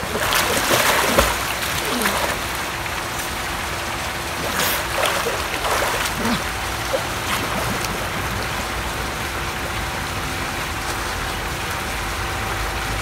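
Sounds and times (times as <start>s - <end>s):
pool water splashing and sloshing: 0.0s - 13.0s.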